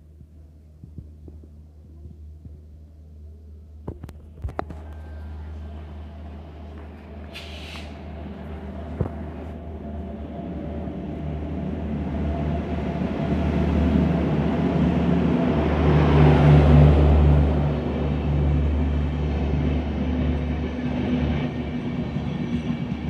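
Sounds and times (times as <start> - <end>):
train rumbling over rails: 4.2 - 23.0.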